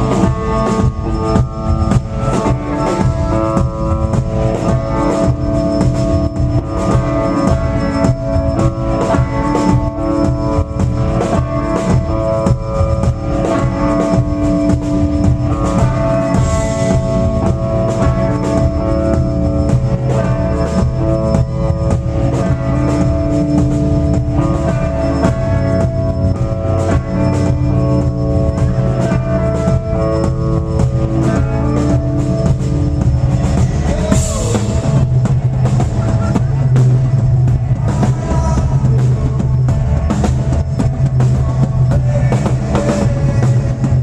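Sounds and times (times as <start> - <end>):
band playing a song: 0.0 - 44.0
drum kit beat: 0.0 - 44.0.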